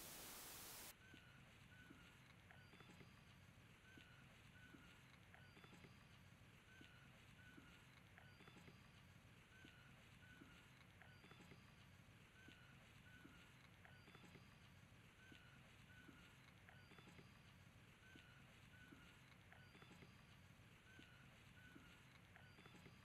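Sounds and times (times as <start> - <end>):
faint outdoor hiss: 0.0 - 23.0
small ticks: 0.0 - 23.0.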